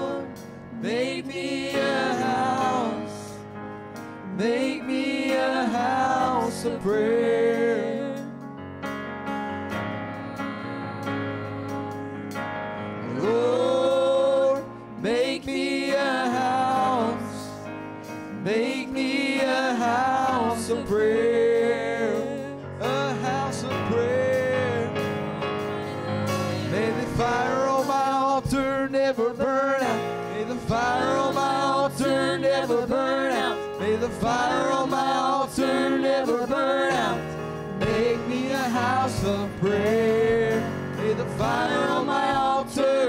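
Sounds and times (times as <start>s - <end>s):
instrumental accompaniment: 0.0s - 43.0s.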